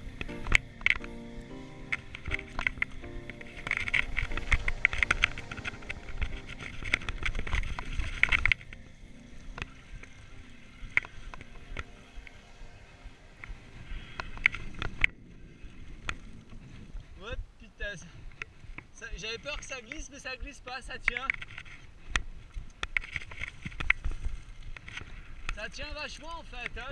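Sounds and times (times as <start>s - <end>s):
bike tyres crunching over stones: 0.0s - 17.2s, 18.2s - 26.9s.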